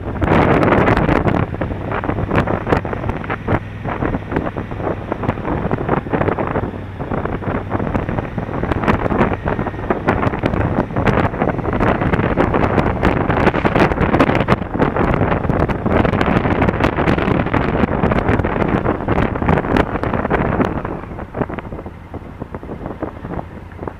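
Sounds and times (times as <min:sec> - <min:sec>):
motorcycle engine drone: 0:00.0 - 0:23.9
wind buffeting microphone: 0:00.0 - 0:23.9.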